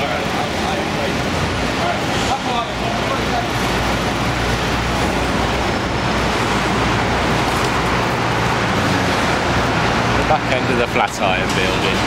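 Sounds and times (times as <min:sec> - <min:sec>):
close engine hum: 0:00.0 - 0:12.0
street traffic noise: 0:00.0 - 0:12.0.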